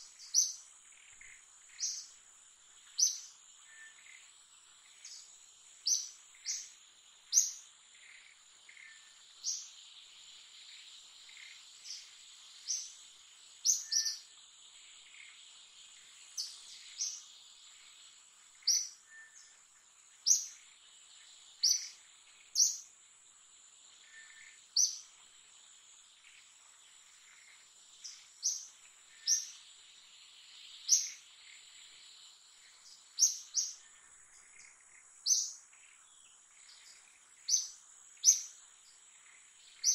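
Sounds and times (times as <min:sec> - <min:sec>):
bird chirping: 0:00.0 - 0:23.0, 0:23.7 - 0:39.9
insects droning: 0:00.0 - 0:39.9.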